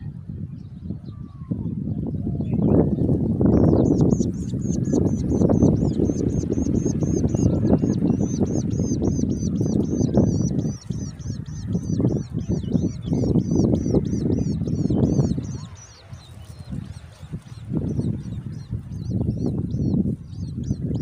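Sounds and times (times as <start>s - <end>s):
bird nestling begging calls: 3.4s - 21.0s.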